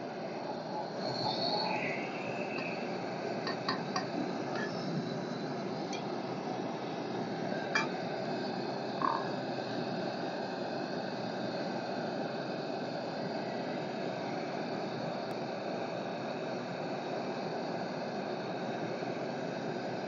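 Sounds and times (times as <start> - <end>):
stove burner hissing: 0.0 - 20.0.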